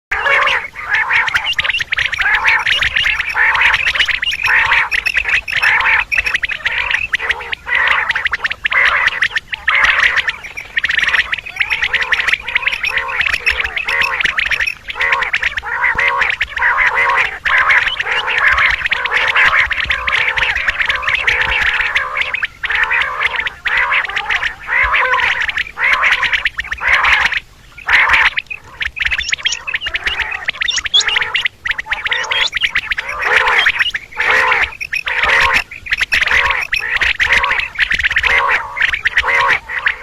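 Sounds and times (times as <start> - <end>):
quail calls: 0.1 - 40.0.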